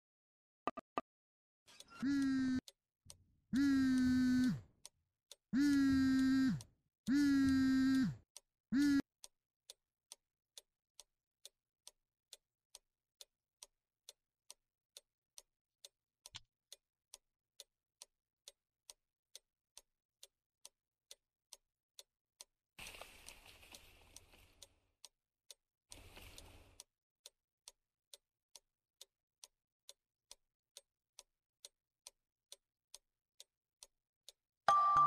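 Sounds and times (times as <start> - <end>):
clock ticking: 1.7 - 22.6, 24.2 - 35.0.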